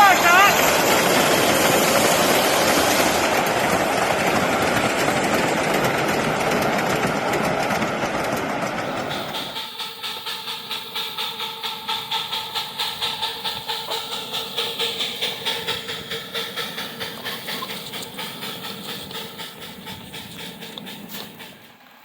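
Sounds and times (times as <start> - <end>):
steady steam hiss: 0.0 - 7.6, 8.3 - 22.0
steam locomotive exhaust chuffing: 0.0 - 22.0.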